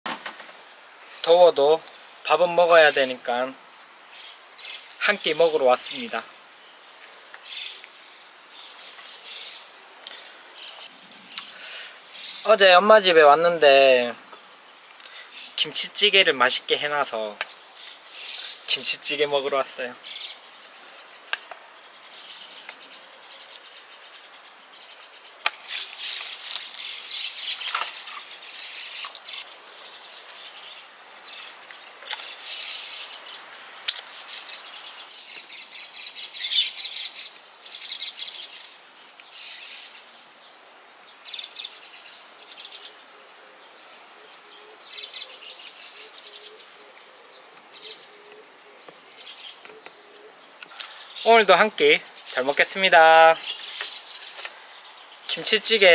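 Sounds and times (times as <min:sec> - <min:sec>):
small birds chirping: 0:00.6 - 0:55.9.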